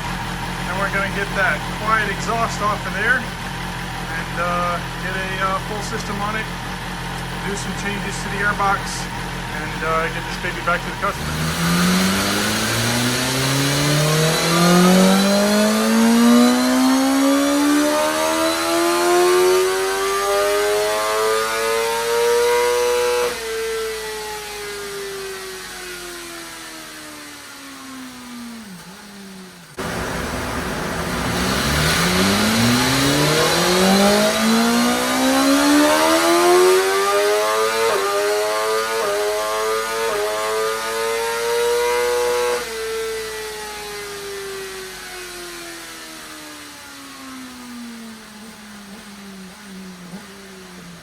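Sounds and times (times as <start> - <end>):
dyno roller winding down: 0.0 - 50.7
motorcycle engine revving: 0.0 - 51.0.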